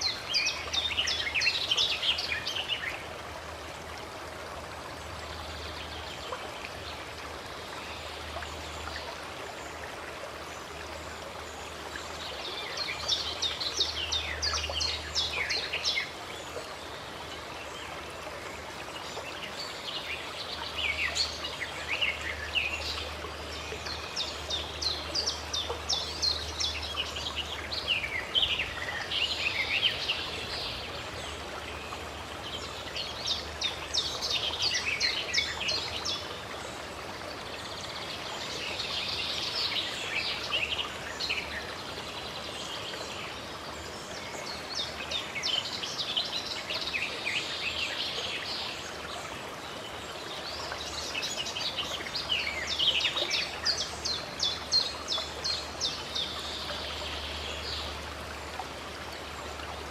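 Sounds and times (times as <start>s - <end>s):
running water: 0.0s - 59.9s
songbirds chirping: 0.0s - 59.9s.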